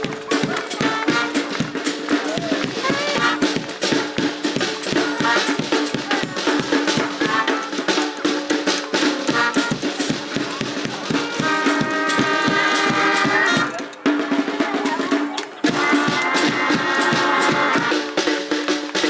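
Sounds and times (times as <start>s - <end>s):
bass drum and snare beat: 0.0s - 19.0s
brass band playing: 0.0s - 19.0s.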